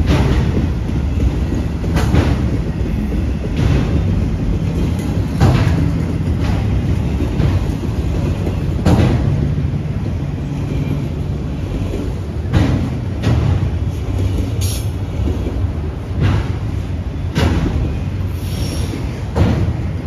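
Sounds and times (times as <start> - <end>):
sharp rail clacks: 0.0 - 20.0
train wheels rumbling on rail: 0.0 - 20.0.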